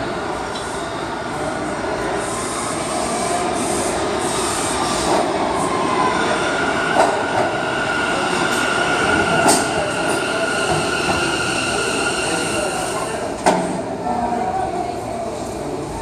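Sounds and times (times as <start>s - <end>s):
subway train rumbling on tracks: 0.0s - 16.0s.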